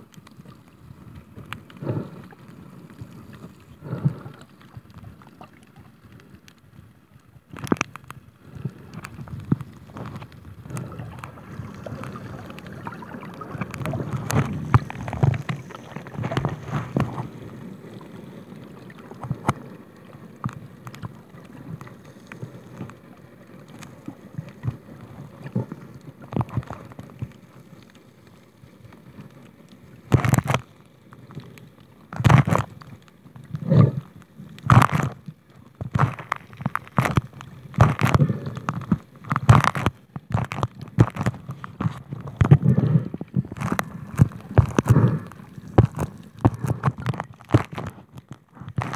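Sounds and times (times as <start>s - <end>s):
muffled underwater rushing: 0.0s - 6.8s, 7.4s - 48.9s.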